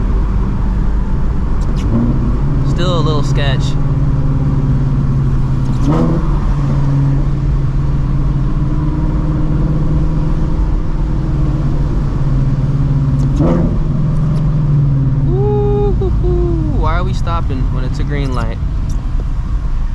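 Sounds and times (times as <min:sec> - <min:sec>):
car engine at low revs: 0:00.0 - 0:19.9.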